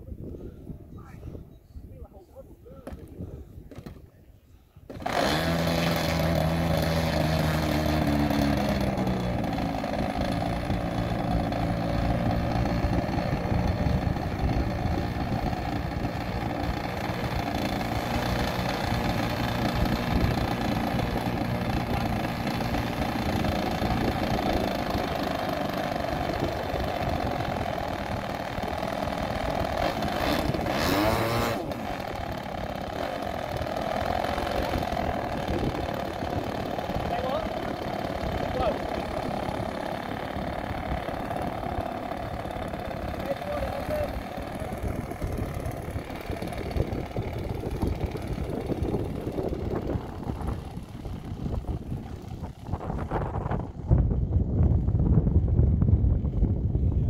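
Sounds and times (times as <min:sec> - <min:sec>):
model plane engine running: 0:04.9 - 0:57.0.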